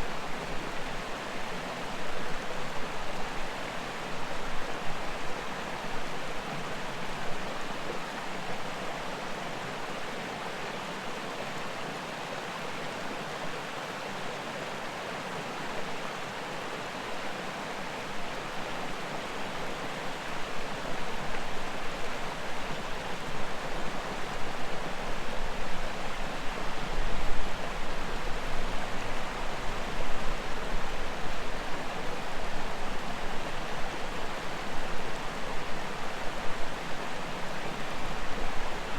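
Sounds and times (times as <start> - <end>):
creek and waterfall rushing: 0.0 - 38.9.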